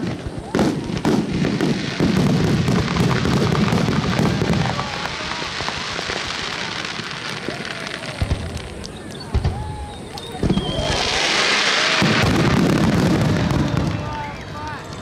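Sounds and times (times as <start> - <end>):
crackle of fireworks stars: 0.0 - 15.0
fireworks booming: 0.0 - 15.0.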